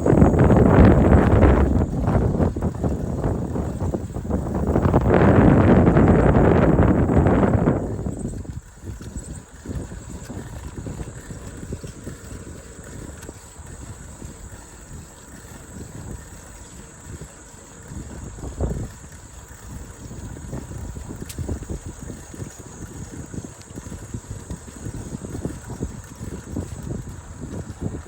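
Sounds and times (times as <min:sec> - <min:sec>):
low uneven rumble: 0:00.0 - 0:28.0
wind buffeting microphone: 0:00.0 - 0:28.0.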